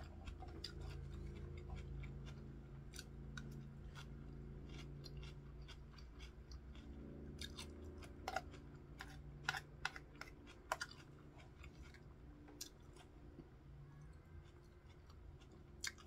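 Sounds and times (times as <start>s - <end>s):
wet crunchy chewing: 0.0s - 16.0s.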